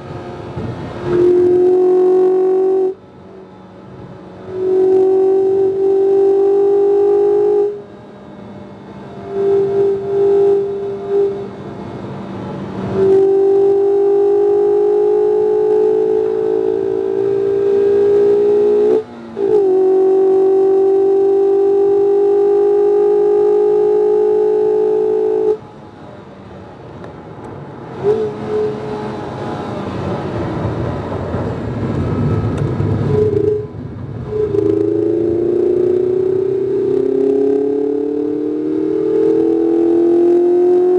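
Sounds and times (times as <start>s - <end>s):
car engine pulling hard: 0.0s - 40.9s
engine blips: 0.0s - 40.9s
tyre and road noise: 0.0s - 40.9s.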